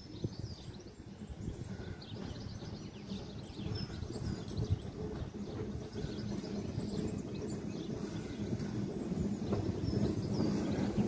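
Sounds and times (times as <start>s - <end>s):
birds chirping: 0.0s - 11.0s
distant steam locomotive rumble: 0.0s - 11.0s.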